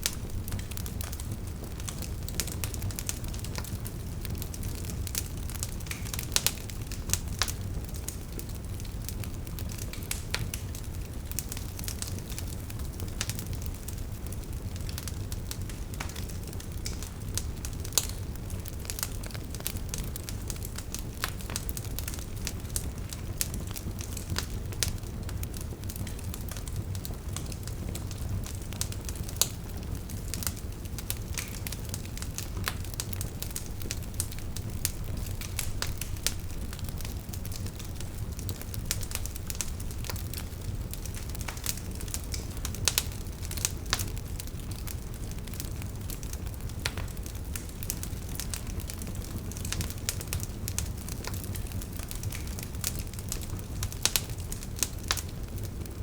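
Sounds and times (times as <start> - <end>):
logs crackling and popping: 0.0 - 56.0
low rumble of flame: 0.0 - 56.0.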